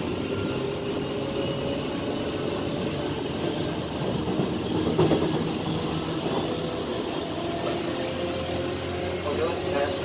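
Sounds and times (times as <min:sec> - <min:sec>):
electric train equipment humming: 0:00.0 - 0:10.0.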